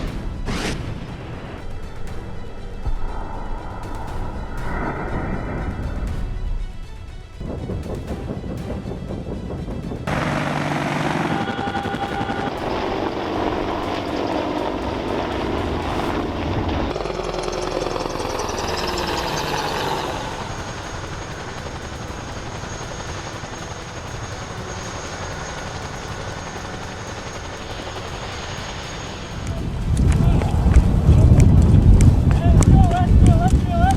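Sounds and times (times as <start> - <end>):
thin high whine: 0.0 - 8.8, 10.1 - 31.7
helicopter rotor and engine: 0.0 - 33.9.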